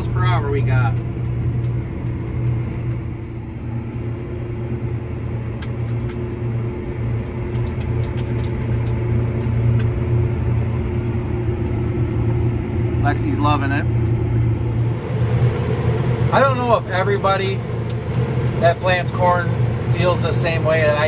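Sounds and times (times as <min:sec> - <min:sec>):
tractor engine drone: 0:00.0 - 0:21.0.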